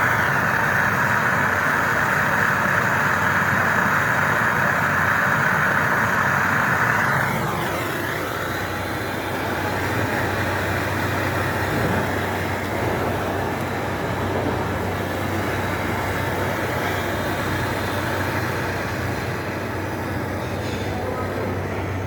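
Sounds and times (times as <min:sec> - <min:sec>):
machine running with low hum: 0:00.0 - 0:22.0.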